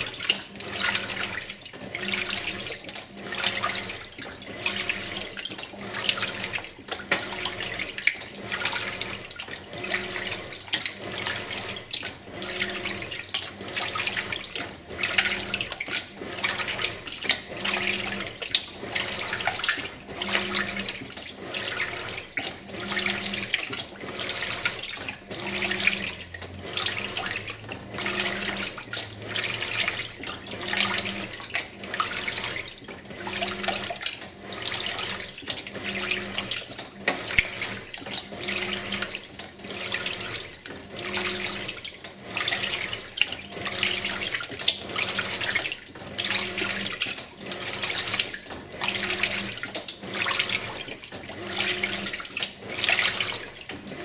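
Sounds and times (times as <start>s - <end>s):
washing machine sloshing water: 0.0s - 54.0s.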